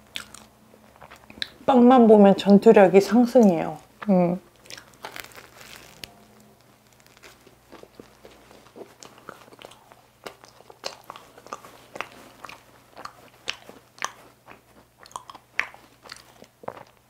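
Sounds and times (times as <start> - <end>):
person chewing crisp pastry: 0.0 - 1.6, 3.8 - 17.0
wet mouth sounds: 0.1 - 1.6, 3.8 - 6.1, 6.8 - 17.0.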